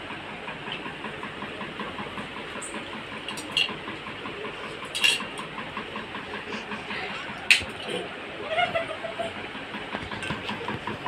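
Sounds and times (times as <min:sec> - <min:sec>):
steady pulsing mechanical hum: 0:00.0 - 0:11.0.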